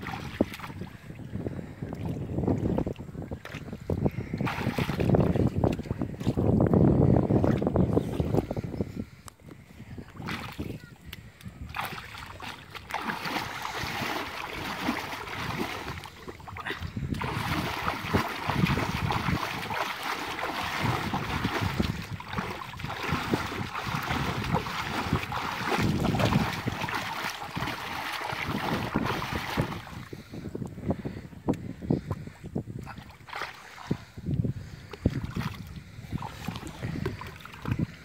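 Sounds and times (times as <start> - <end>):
muddy water splashing: 0.0 - 8.7, 9.9 - 30.4, 32.0 - 38.0.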